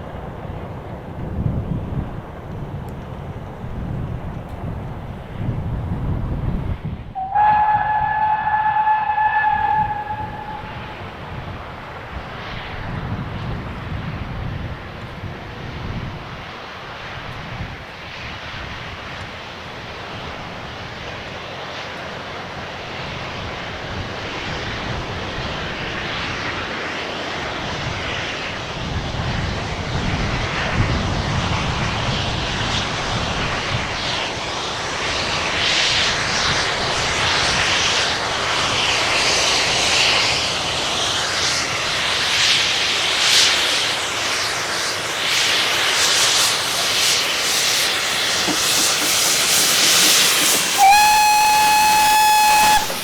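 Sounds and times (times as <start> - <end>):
train approaching rumble: 0.0 - 53.0.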